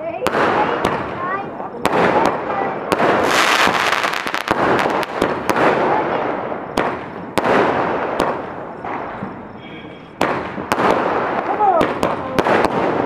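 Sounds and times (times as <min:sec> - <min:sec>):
fireworks bangs: 0:00.0 - 0:13.0
fireworks crackling and hiss: 0:00.0 - 0:13.0.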